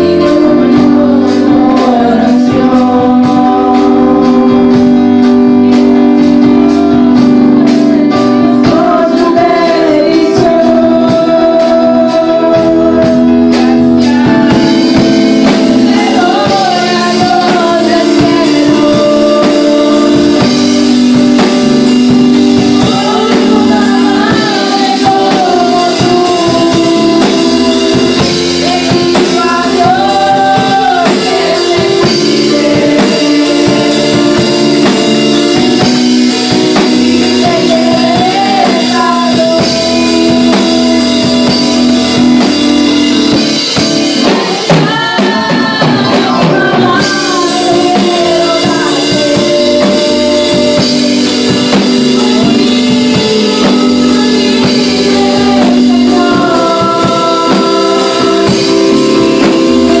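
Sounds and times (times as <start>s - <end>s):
drum kit beat: 0.0s - 60.0s
keyboard: 0.0s - 60.0s
young people and children singing: 0.0s - 60.0s.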